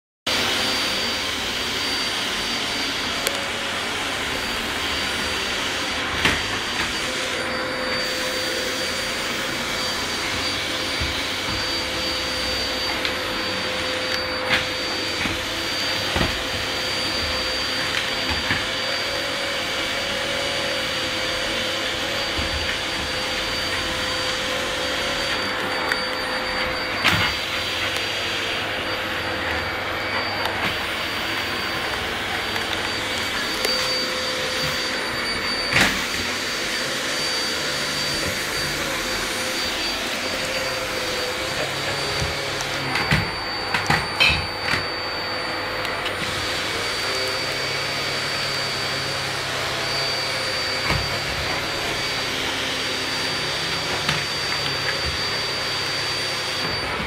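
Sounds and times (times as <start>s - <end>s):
vacuum cleaner whining: 0.3s - 57.0s.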